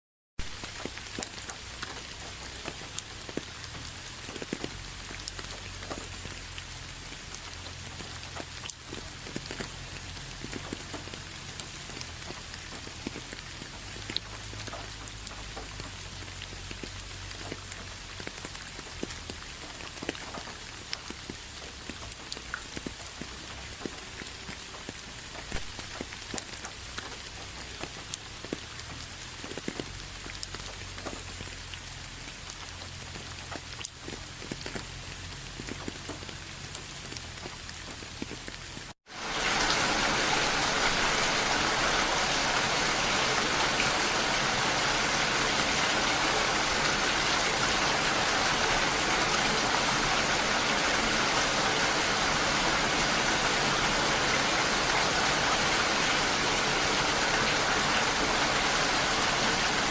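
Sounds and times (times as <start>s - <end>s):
rain hiss: 0.4s - 59.9s
raindrops ticking on a surface: 0.4s - 59.9s.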